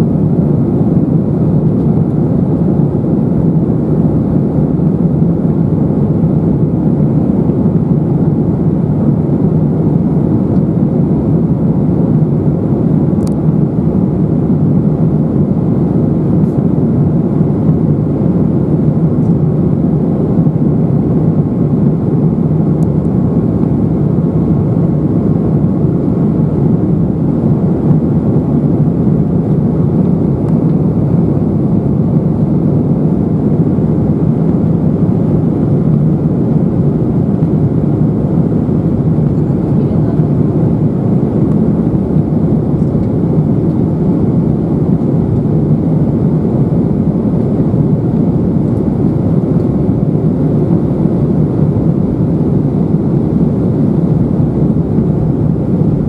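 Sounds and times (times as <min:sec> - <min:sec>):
airflow around aircraft cabin: 0:00.0 - 0:56.0
jet engines droning: 0:00.0 - 0:56.0.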